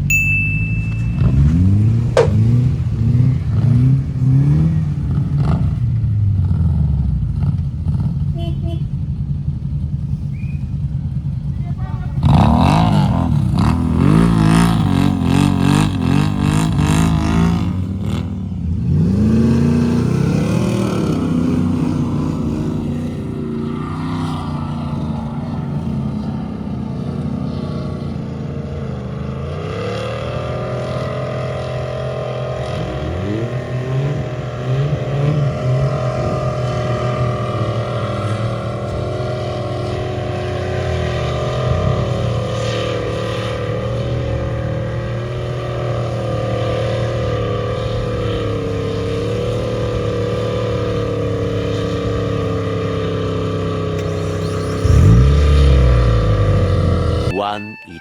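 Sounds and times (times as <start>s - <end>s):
off-road engine revving: 0.0s - 57.5s.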